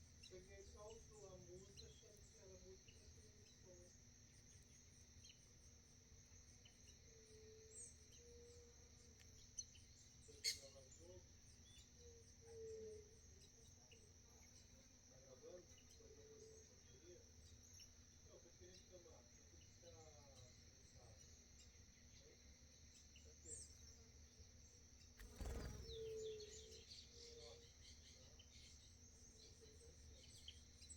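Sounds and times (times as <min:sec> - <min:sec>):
faint insect chirring: 0:00.0 - 0:30.9.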